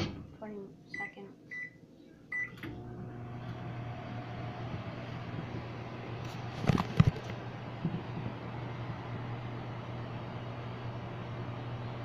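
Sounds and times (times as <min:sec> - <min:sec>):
microwave oven humming: 0:01.0 - 0:12.0.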